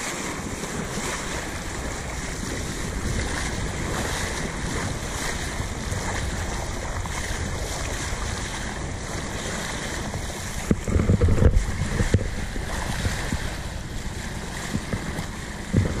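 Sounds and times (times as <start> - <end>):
water rushing along hull: 0.0 - 16.0
wind on microphone: 0.0 - 16.0.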